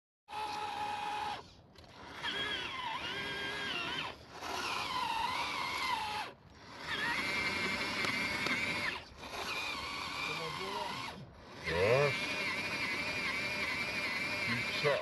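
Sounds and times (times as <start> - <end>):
electric motor whining: 0.3 - 15.0.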